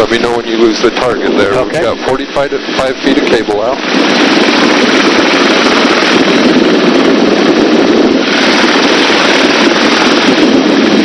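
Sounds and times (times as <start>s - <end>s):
helicopter rotor and engine noise: 0.0s - 11.0s
wind buffeting microphone: 0.0s - 11.0s.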